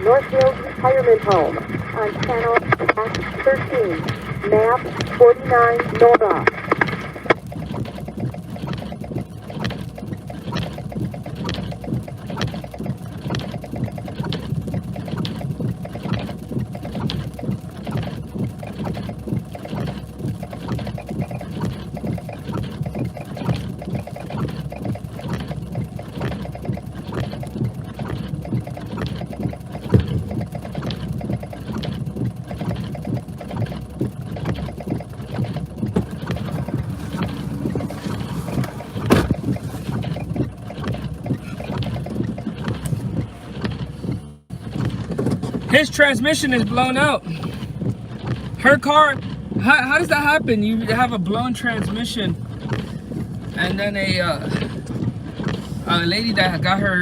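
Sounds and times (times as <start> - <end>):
vehicle driving on snowy road: 0.0 - 57.0.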